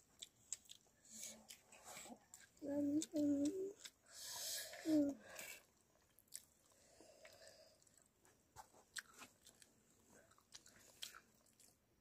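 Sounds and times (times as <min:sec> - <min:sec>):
person chewing: 0:00.0 - 0:04.3, 0:05.2 - 0:11.8.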